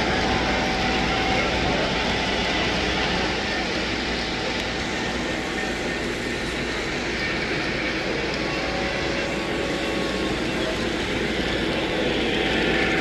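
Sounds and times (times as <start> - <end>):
din of busy hall: 0.0 - 13.0
model trains running: 0.0 - 13.0.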